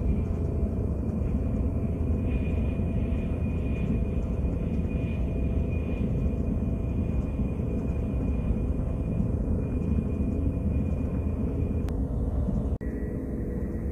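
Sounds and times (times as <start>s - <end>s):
train cabin rumble: 0.0s - 12.9s
faint high whine: 0.0s - 13.9s.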